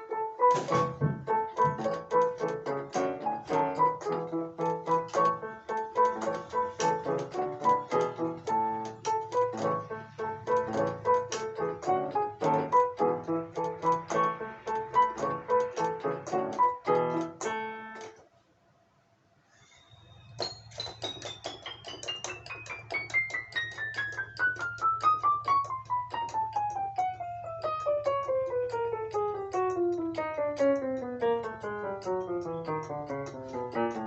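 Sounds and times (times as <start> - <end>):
digital piano playing: 0.0 - 18.2, 20.1 - 34.0.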